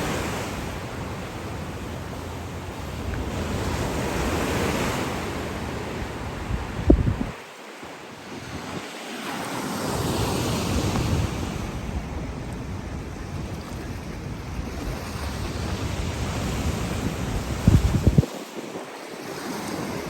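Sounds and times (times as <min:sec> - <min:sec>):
wind buffeting microphone: 0:00.0 - 0:07.4, 0:10.1 - 0:20.0
surf washing onto shore: 0:00.0 - 0:20.0.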